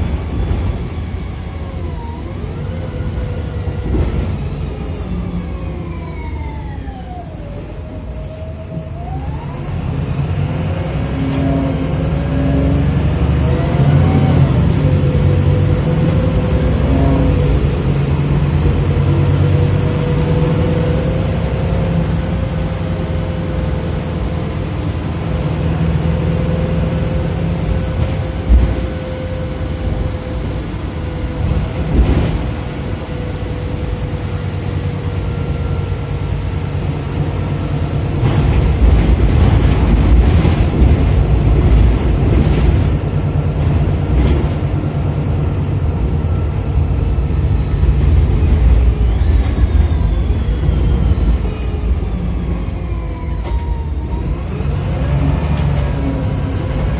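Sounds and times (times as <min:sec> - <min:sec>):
bus engine running: 0:06.8 - 0:56.9.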